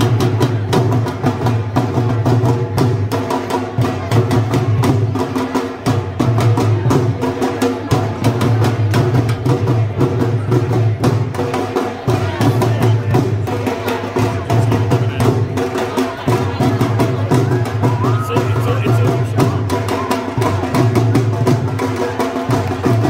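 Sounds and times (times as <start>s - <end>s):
dhol drum played with sticks: 0.0s - 23.0s.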